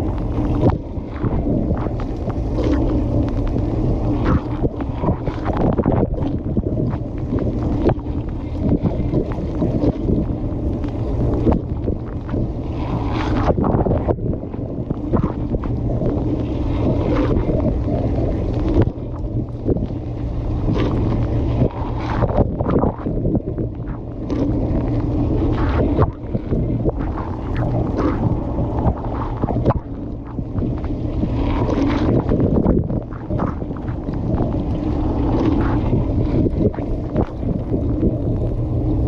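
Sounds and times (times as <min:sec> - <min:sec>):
dishwasher low hum: 0:00.0 - 0:39.0.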